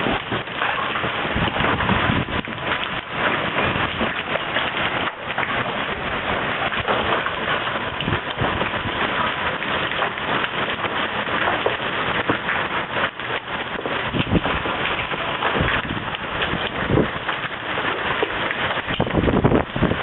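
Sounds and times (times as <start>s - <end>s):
hailstones pelting water: 0.0s - 20.0s.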